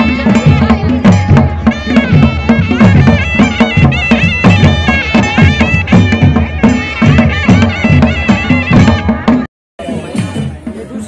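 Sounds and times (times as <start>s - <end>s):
shrill reed pipe melody: 0.0s - 10.6s
drums beating fast: 0.0s - 11.0s.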